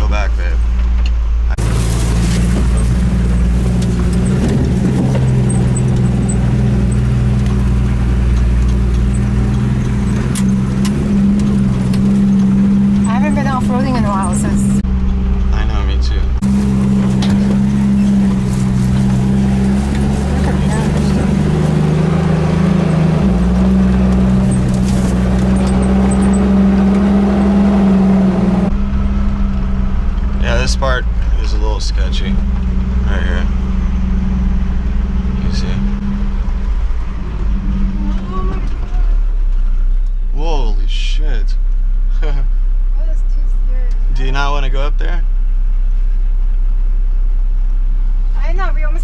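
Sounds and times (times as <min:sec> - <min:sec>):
car engine running: 0:00.0 - 0:49.0.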